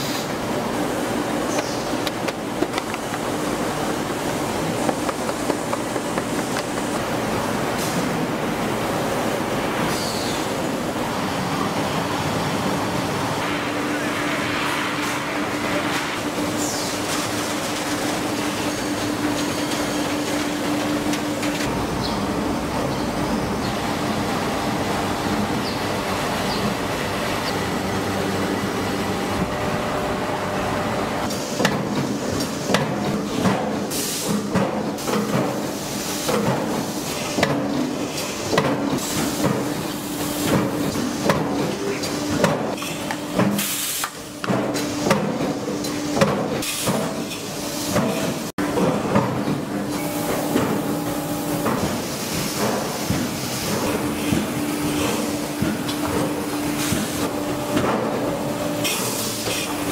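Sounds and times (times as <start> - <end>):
factory machinery humming: 0.0 - 59.9.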